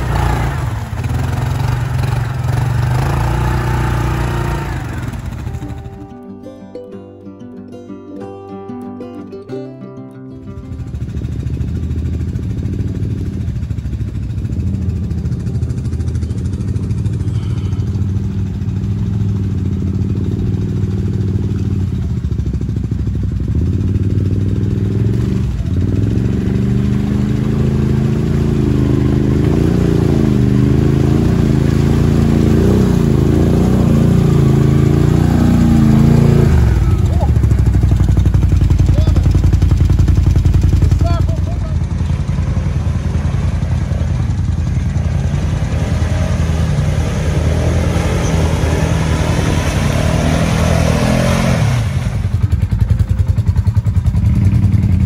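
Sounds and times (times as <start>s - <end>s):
quad engines driving through mud: 0.0s - 6.1s, 10.6s - 55.0s.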